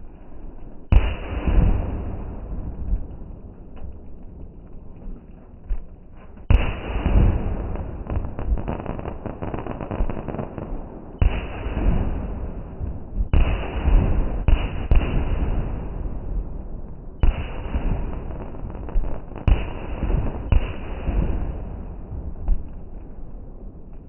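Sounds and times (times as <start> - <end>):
faint fireworks cracks: 0.0 - 24.0
fireworks crackling and rumbling: 0.0 - 24.0
fireworks bangs: 0.9 - 16.4, 17.2 - 22.9.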